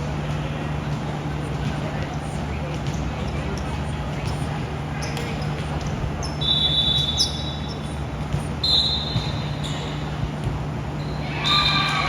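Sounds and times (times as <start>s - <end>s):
low hum and room noise: 0.0s - 12.0s.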